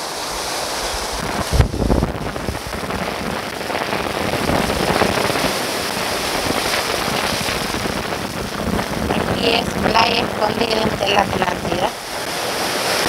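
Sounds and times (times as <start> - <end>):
surf breaking on rocks: 0.1 - 13.0.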